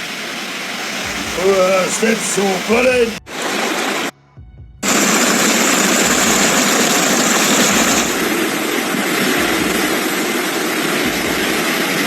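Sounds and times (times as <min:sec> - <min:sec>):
water rushing: 0:00.0 - 0:04.1, 0:04.8 - 0:12.0.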